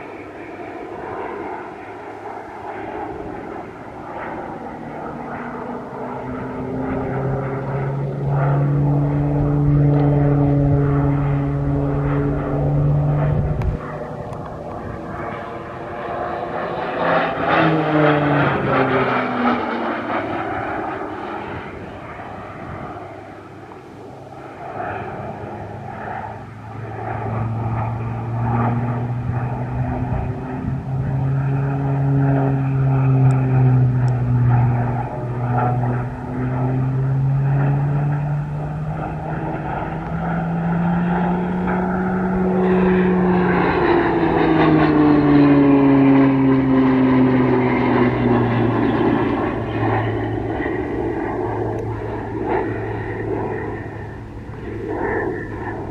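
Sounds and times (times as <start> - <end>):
propeller planes flying past: 0.0 - 55.9.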